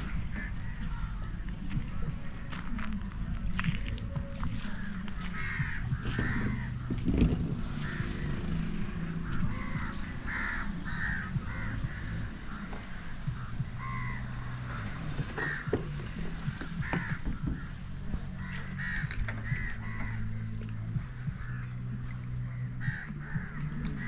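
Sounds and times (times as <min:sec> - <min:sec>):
crows cawing: 0:00.0 - 0:02.4, 0:04.4 - 0:24.0.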